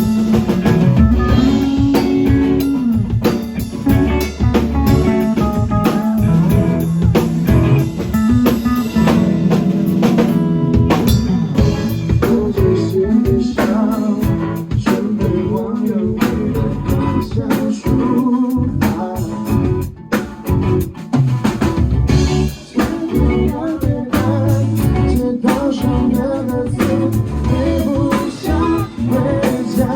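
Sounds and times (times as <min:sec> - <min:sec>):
rock band playing: 0:00.0 - 0:29.9.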